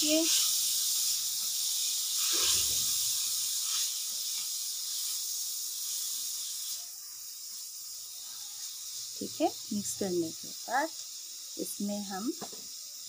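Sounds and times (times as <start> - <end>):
spatula stirring in wok: 0.0 - 11.5
vegetables sizzling in hot oil: 0.0 - 13.0.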